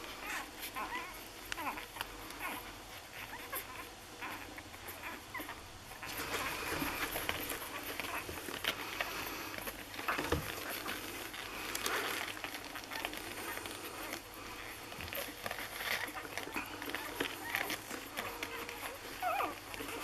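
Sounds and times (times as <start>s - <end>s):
puppies suckling: 0.0s - 20.0s.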